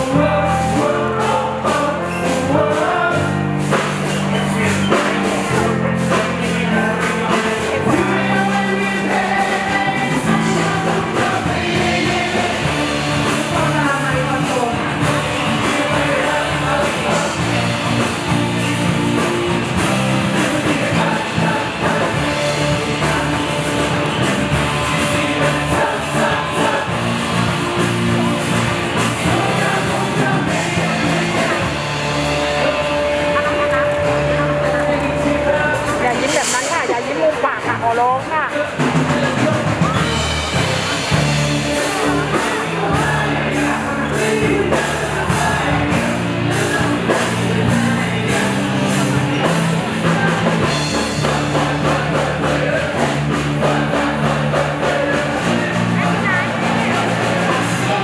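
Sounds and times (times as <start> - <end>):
pop song over pa: 0.0 - 58.0.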